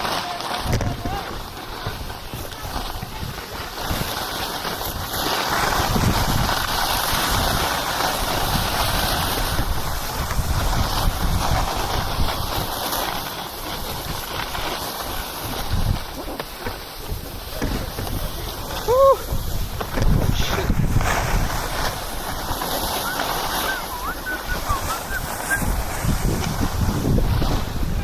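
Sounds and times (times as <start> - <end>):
wind buffeting microphone: 0.6 - 12.8, 13.6 - 16.2, 17.0 - 28.0.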